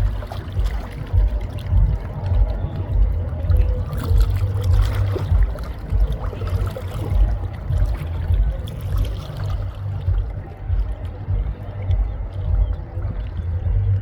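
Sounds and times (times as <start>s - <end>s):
low rumble: 0.0s - 14.0s
river water flowing: 0.0s - 14.0s.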